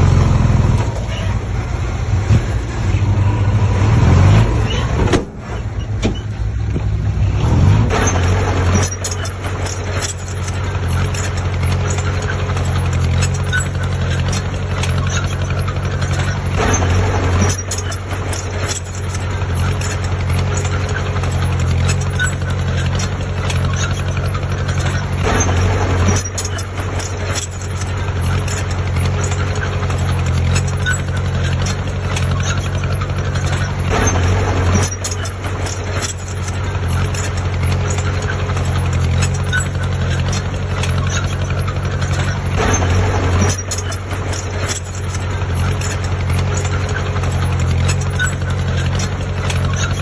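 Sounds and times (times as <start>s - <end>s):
heavy diesel engine droning: 0.0s - 50.0s.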